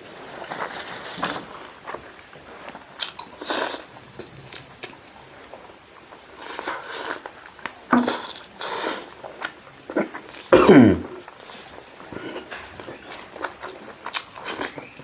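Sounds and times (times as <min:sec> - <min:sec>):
person chewing and crunching: 0:00.5 - 0:15.0.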